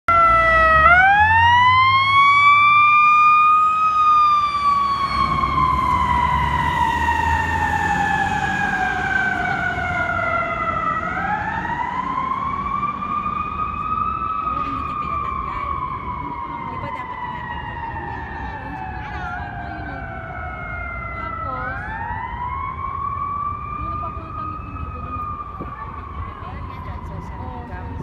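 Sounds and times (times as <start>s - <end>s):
fire engine siren wailing: 0.1s - 28.0s
truck rumble: 0.1s - 28.0s.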